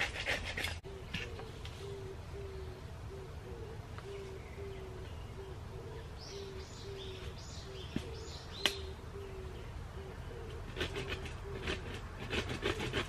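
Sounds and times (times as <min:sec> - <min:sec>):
bird hooting: 0:00.8 - 0:12.0.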